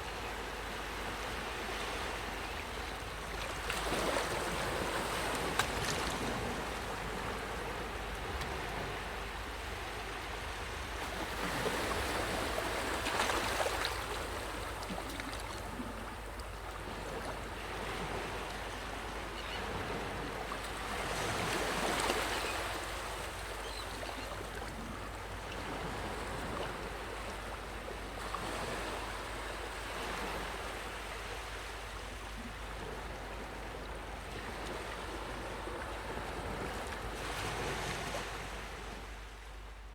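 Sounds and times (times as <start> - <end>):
waves breaking on shore: 0.0 - 39.8.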